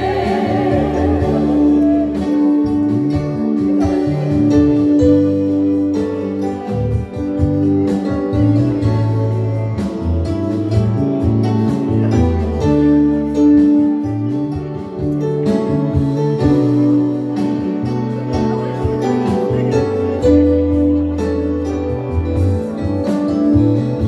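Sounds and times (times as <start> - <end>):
instrumental worship music: 0.0 - 24.0.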